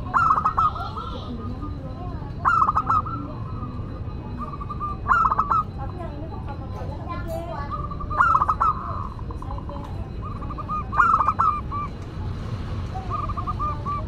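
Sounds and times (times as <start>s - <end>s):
faint bird chirps: 0.0s - 12.1s
dove cooing: 0.0s - 14.0s
steady low hum: 0.0s - 14.0s.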